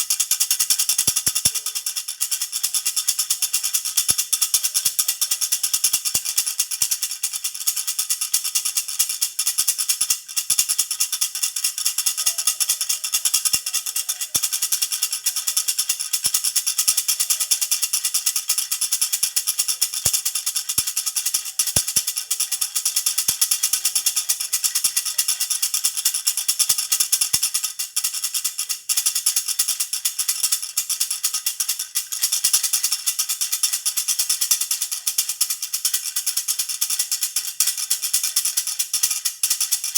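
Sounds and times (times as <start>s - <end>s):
baby rattle jingling: 0.0s - 28.5s, 30.7s - 39.9s.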